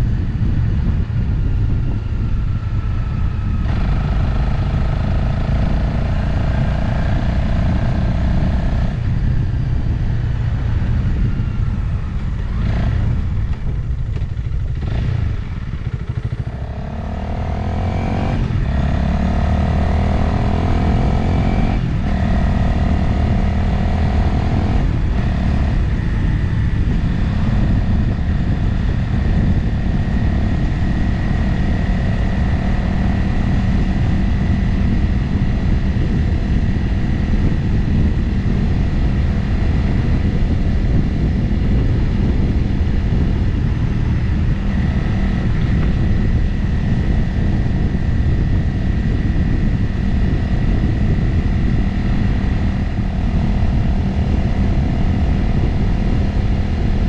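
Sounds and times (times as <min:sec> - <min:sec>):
motorcycle engine cruising: 0:00.0 - 0:57.0
wind on microphone: 0:00.0 - 0:57.0.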